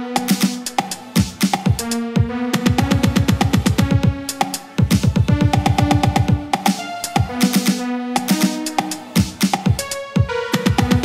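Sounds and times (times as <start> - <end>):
hip-hop beat: 0.0 - 11.0.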